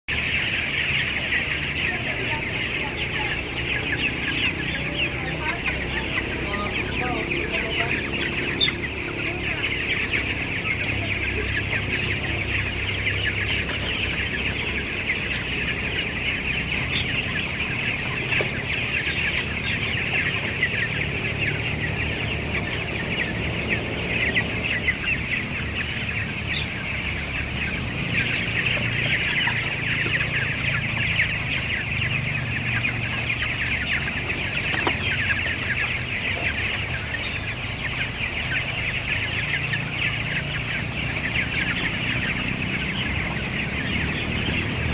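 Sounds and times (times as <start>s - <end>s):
chickens clucking and peeping: 0.1s - 44.9s.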